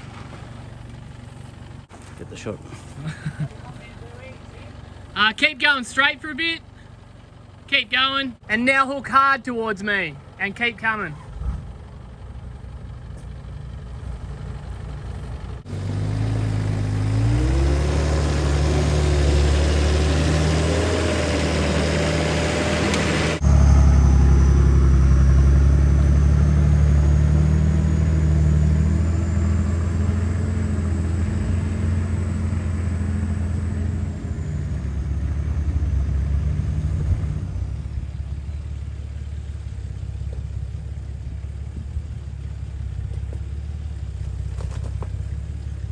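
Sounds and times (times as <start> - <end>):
engine working under load: 0.0 - 45.9.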